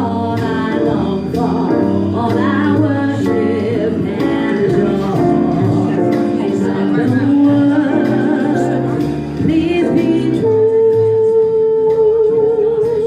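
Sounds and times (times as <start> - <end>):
instrumental accompaniment: 0.0 - 13.0
person singing: 0.0 - 13.0.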